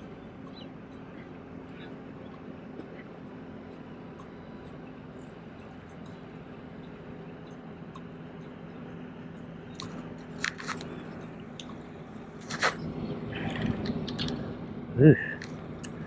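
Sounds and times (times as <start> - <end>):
low boat engine hum: 0.0 - 16.0.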